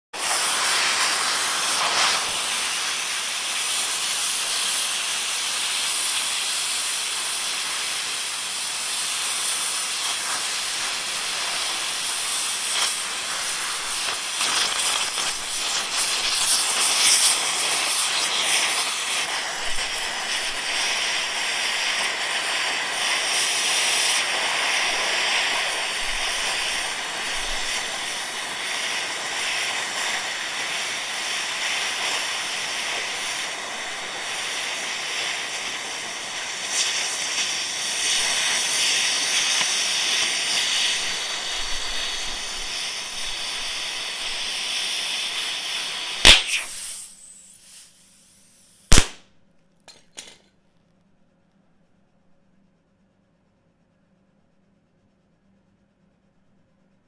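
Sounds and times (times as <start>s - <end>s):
torch flame hissing: 0.1s - 49.2s
skin crackling as it chars: 0.2s - 48.2s, 48.9s - 49.2s.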